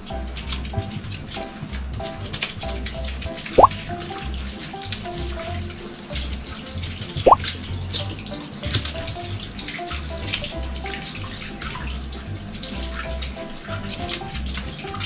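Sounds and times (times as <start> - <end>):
background music with bass beat: 0.0 - 15.0
tap water running into sink: 0.0 - 15.0.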